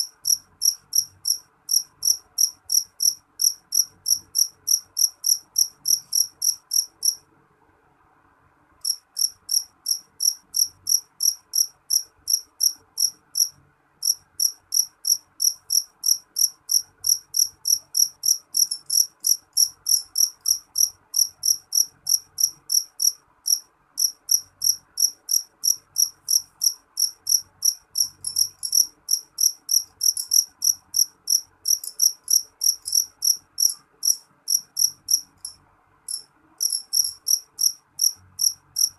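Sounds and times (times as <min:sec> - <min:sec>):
cricket chirping: 0:00.0 - 0:07.2, 0:08.8 - 0:38.9.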